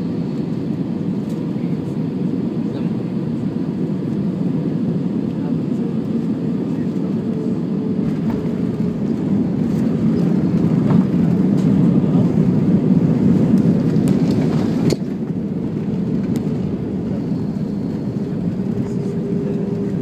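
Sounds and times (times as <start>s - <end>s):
jet engines and rushing air: 0.0s - 20.0s.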